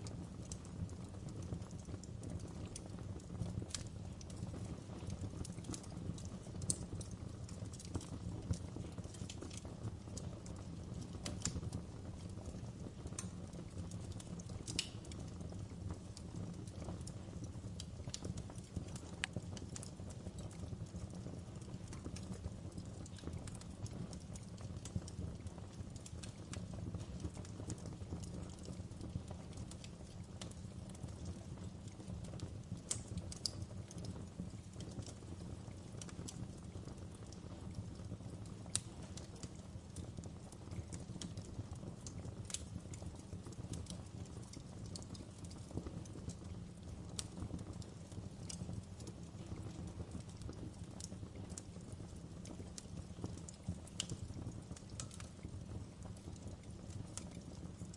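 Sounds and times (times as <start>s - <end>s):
flames rumbling and hissing: 0.0s - 57.9s
wood fire crackling: 0.0s - 57.9s.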